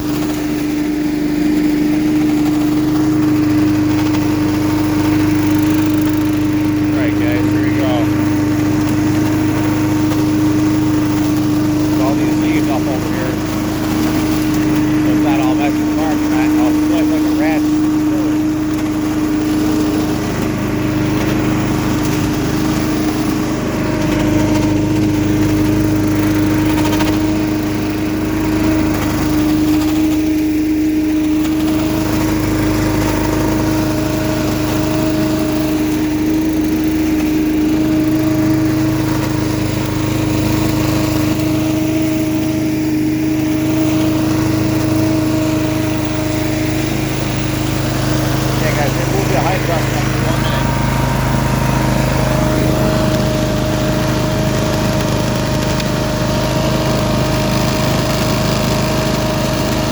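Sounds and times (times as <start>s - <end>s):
small gas engine running: 0.0s - 59.9s.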